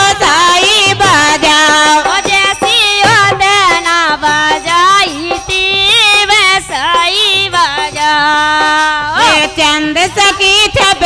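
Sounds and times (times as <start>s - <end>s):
women singing folk song: 0.0s - 11.0s.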